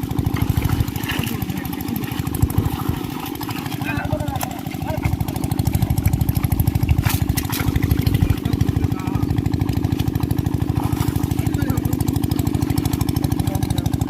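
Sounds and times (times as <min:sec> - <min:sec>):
small engine thudding: 0:00.0 - 0:14.0.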